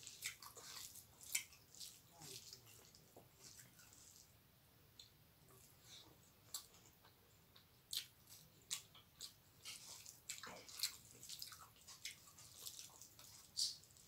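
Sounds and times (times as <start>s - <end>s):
fingers mixing food wet squishes: 0.0s - 4.4s, 5.0s - 14.0s.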